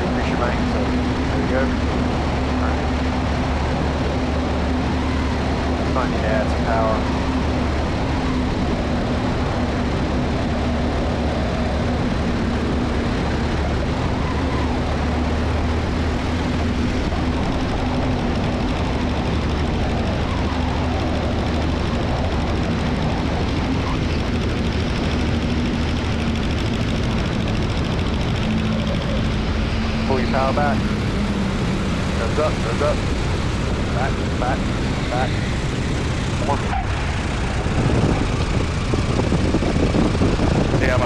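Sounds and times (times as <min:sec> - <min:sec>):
light plane engine and propeller: 0:00.0 - 0:41.0.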